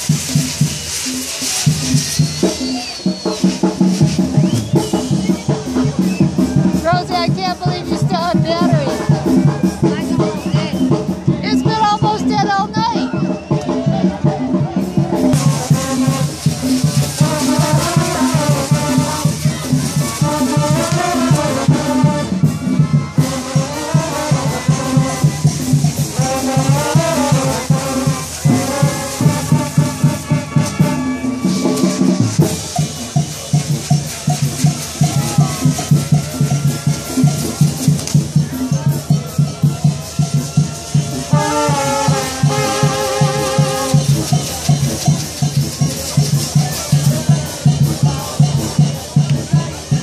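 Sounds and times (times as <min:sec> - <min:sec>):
brass band music: 0:00.0 - 0:50.0
drums and rattling percussion: 0:00.0 - 0:50.0.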